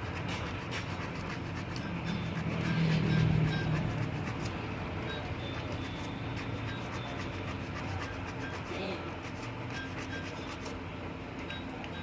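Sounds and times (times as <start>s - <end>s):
rubbing strokes on metal: 0.0s - 4.6s, 5.5s - 10.8s.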